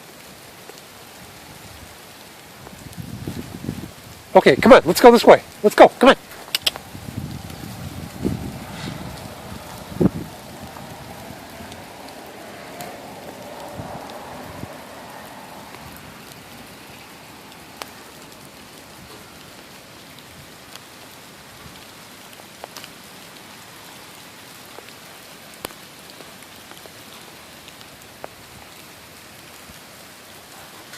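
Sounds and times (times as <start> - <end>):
raindrop hits: 0.0 - 30.9
steady rain: 0.0 - 30.9.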